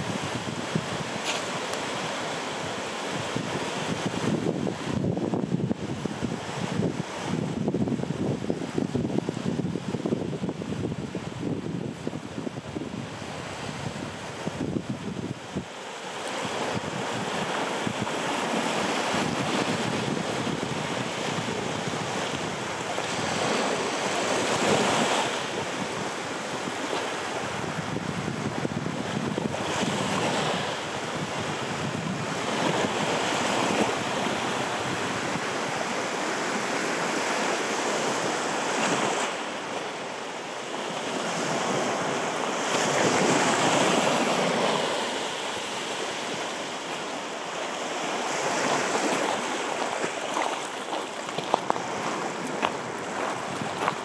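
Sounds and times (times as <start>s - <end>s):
small waves breaking on a beach: 0.0s - 54.0s.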